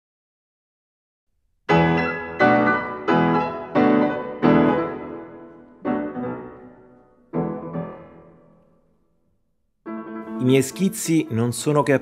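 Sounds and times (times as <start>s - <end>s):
piano chords: 1.7s - 12.0s.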